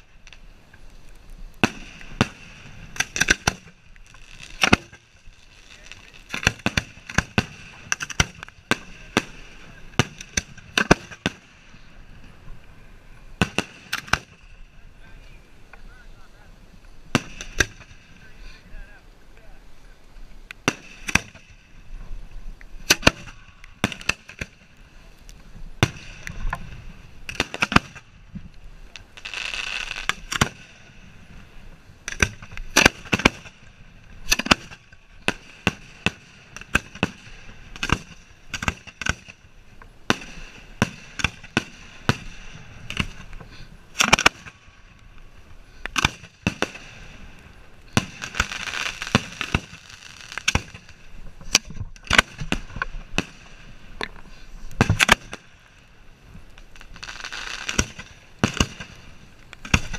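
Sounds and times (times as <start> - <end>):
fireworks booms and pops: 0.0 - 12.7, 13.3 - 14.6, 17.0 - 18.3, 20.5 - 22.1, 22.7 - 59.9.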